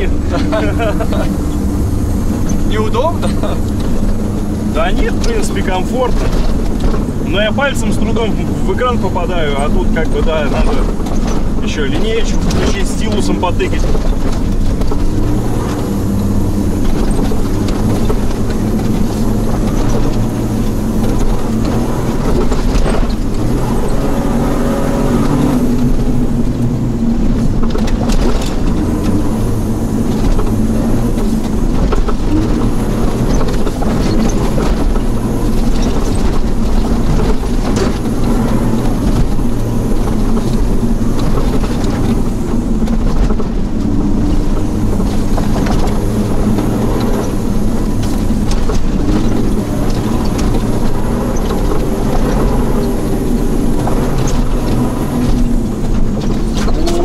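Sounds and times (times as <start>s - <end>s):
body knocks and rattles: 0.0s - 57.0s
car engine running: 0.0s - 57.0s
tyre and road noise: 0.0s - 57.0s.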